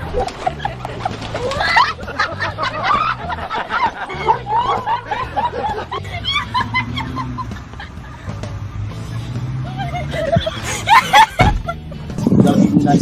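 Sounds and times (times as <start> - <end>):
people laughing and snickering: 0.0 - 13.0.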